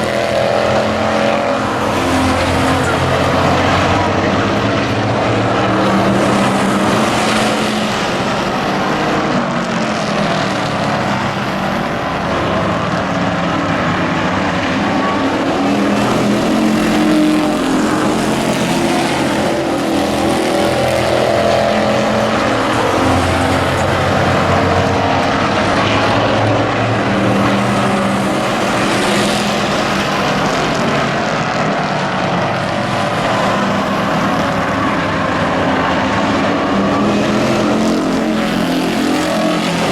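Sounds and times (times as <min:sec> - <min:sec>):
race truck engines passing: 0:00.0 - 0:39.9.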